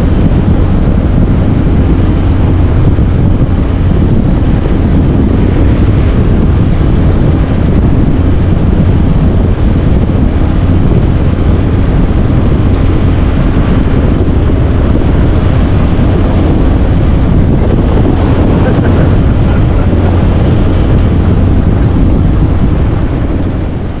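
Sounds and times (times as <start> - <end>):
motorboat engine drone: 0.0 - 24.0
wind buffeting microphone: 0.0 - 24.0.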